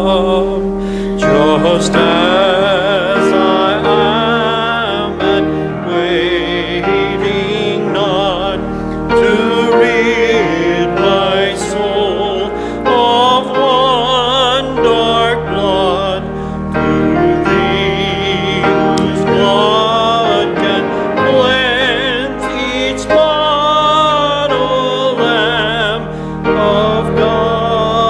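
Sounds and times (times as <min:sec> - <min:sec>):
congregation singing a hymn: 0:00.0 - 0:28.0
instrumental accompaniment: 0:00.0 - 0:28.0.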